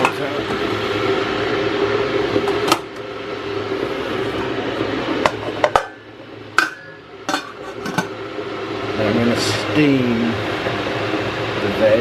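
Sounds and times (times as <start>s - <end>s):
kitchen appliance whirring: 0.0s - 12.0s
low hum: 0.0s - 12.0s.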